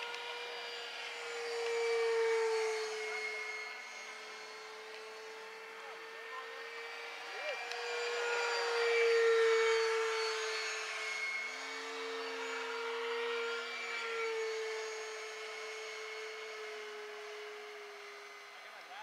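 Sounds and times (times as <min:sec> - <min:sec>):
electric fan motor whining: 0:00.0 - 0:19.0.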